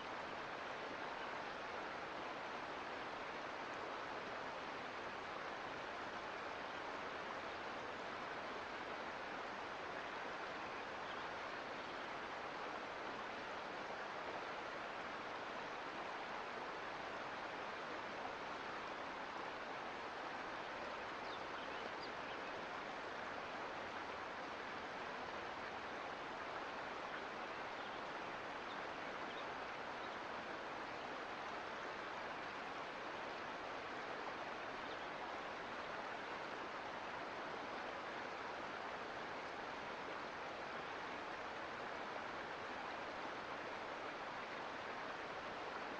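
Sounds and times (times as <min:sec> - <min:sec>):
creek water flowing over rocks: 0:00.0 - 0:45.9.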